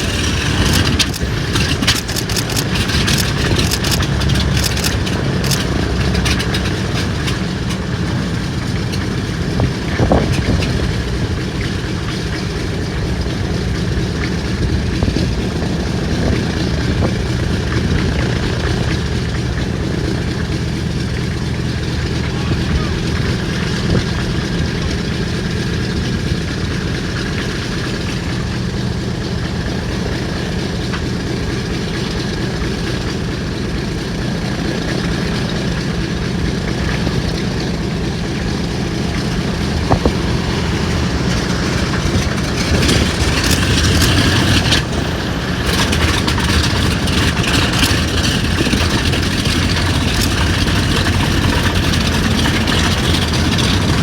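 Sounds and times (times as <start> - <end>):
radial aircraft engine idling: 0.0 - 54.0.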